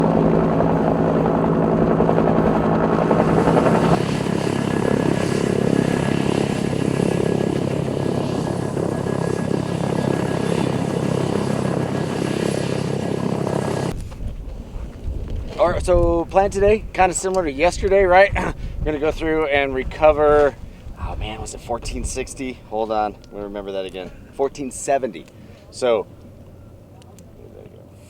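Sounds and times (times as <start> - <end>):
helicopter: 0.0 - 15.7, 20.4 - 28.0.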